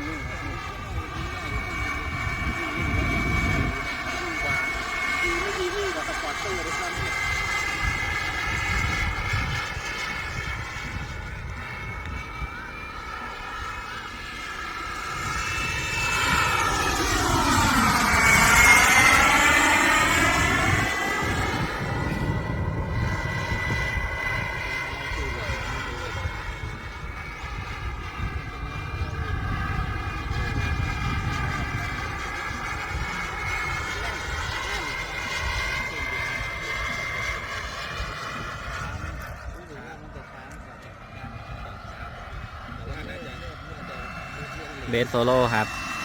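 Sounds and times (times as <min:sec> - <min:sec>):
model jet turbine whining: 0:00.0 - 0:46.0.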